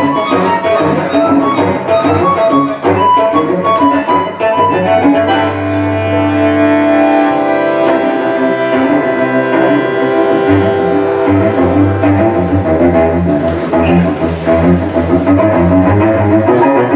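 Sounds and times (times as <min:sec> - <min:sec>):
bandoneon playing: 0:00.0 - 0:16.9
cello playing: 0:00.0 - 0:16.9.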